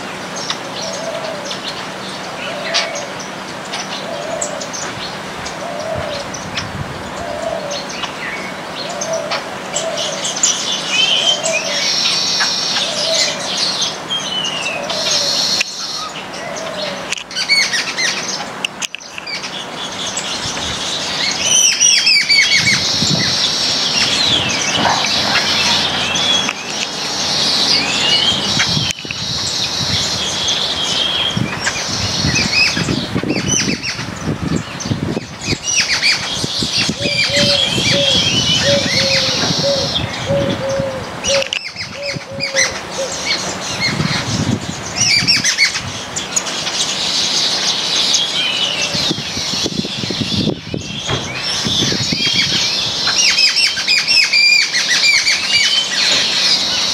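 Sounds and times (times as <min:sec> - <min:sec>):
flock of birds chirping: 0:00.0 - 0:56.9.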